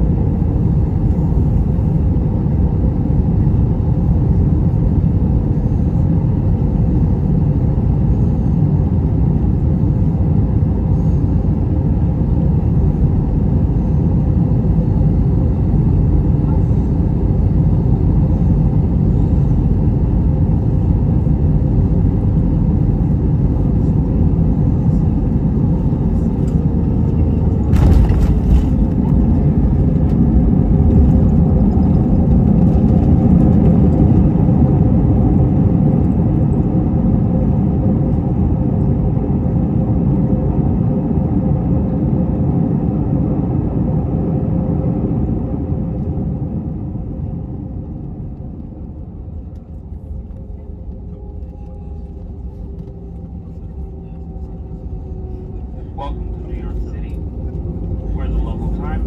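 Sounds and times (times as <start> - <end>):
airliner cabin rumble: 0.0 - 59.0
jet decelerating roar: 8.6 - 59.0.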